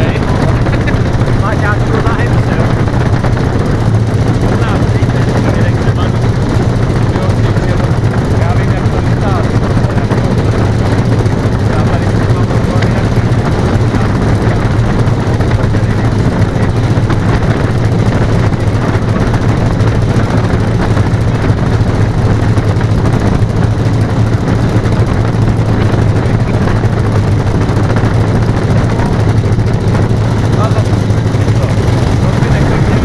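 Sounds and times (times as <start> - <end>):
model airplane engines droning: 0.0 - 33.0.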